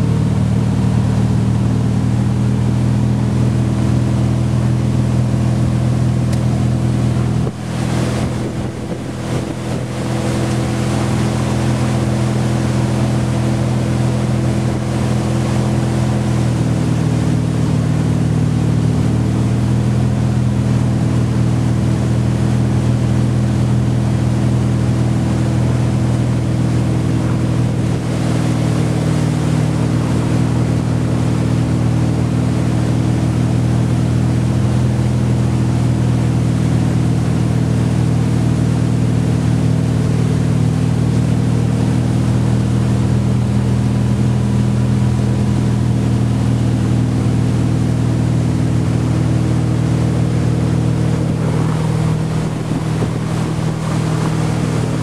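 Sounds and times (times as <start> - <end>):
boat engine running: 0.0 - 55.0
water rushing past hull: 0.0 - 55.0.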